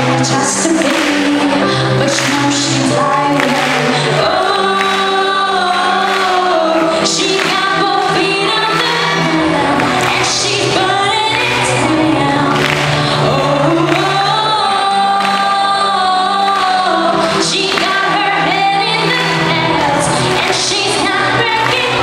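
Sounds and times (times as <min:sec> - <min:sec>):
girl singing into microphone: 0:00.0 - 0:22.0
musical accompaniment: 0:00.0 - 0:22.0.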